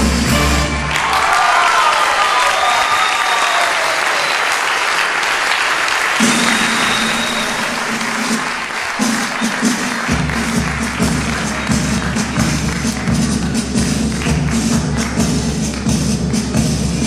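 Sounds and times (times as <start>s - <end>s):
audience applauding: 0.4s - 16.4s.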